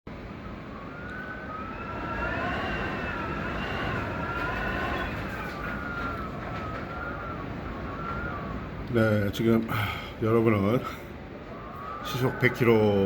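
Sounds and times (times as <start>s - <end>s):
strong wind blowing: 0.1s - 13.0s
wavering wind whistling: 0.1s - 13.0s
wind rumble on microphone: 0.1s - 13.0s.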